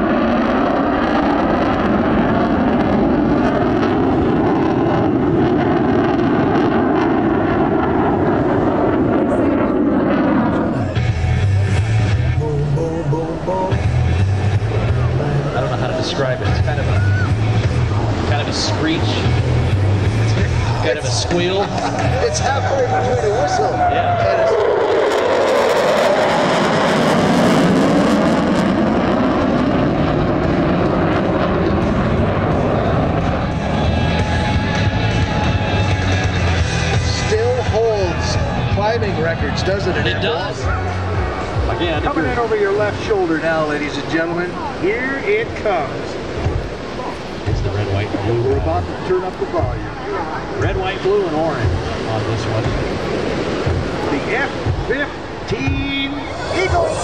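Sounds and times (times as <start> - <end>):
jet engines flying by: 0.0 - 57.0.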